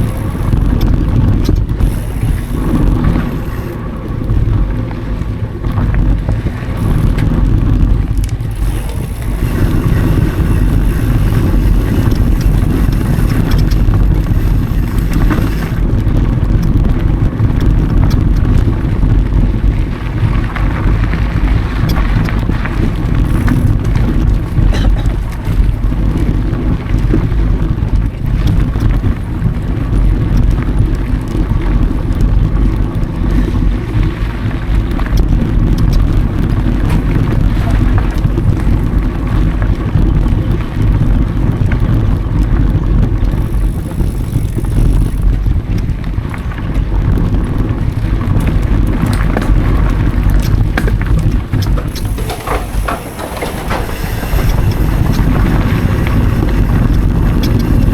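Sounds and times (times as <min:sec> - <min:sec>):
bike rattling: 0:00.0 - 0:57.9
bike tyres rolling over dirt: 0:00.0 - 0:57.9
wind rumble on microphone: 0:00.0 - 0:57.9.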